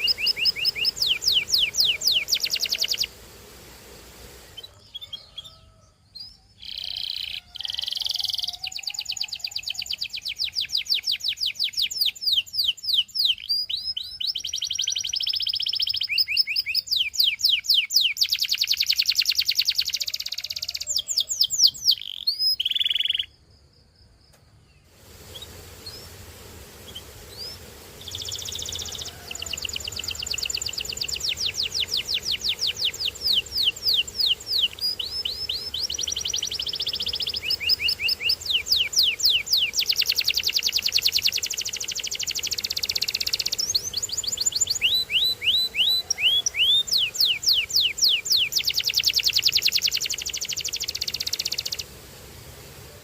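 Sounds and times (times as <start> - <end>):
canary singing trills: 0.0 - 3.2, 4.5 - 23.4, 26.8 - 51.9.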